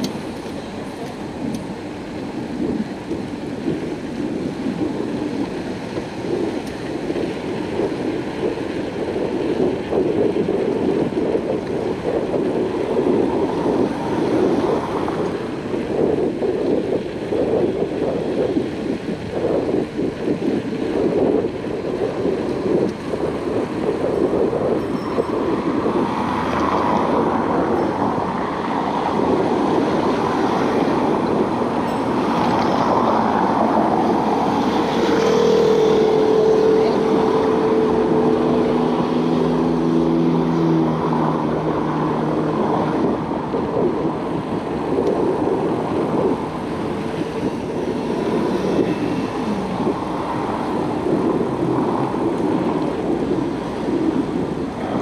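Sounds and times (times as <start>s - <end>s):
road traffic hum: 0.0s - 55.0s
wind buffeting microphone: 0.0s - 55.0s.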